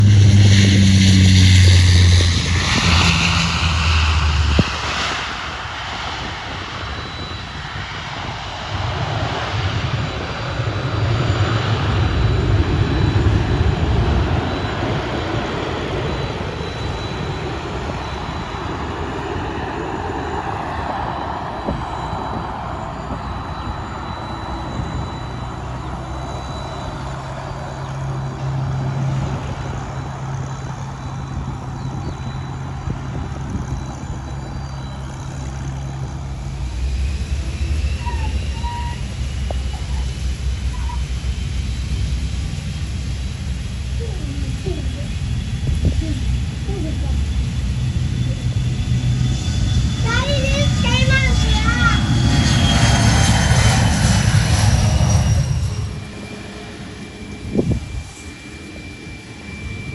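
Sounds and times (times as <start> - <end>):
airplane passing: 0.0 - 59.9.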